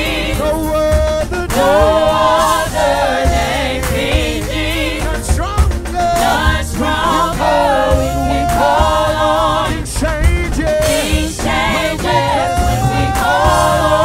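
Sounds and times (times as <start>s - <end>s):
gospel singers: 0.0s - 14.0s
instrumental backing with bass: 0.0s - 14.0s.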